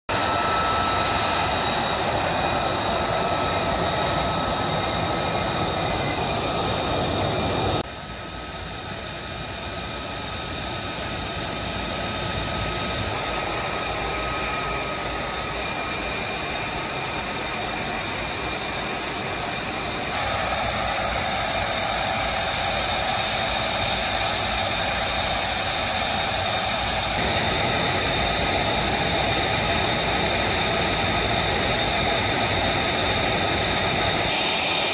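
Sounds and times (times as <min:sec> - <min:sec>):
jet engine running with high whine: 0:00.1 - 0:34.9.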